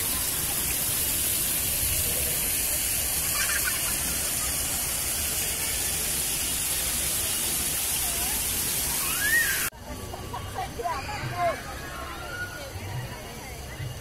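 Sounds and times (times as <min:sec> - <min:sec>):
water flowing over stones: 0:00.0 - 0:14.0.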